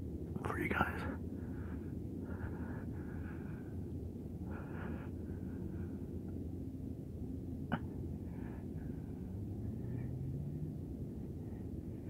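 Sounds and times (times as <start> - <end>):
distant traffic: 0.0 - 12.0.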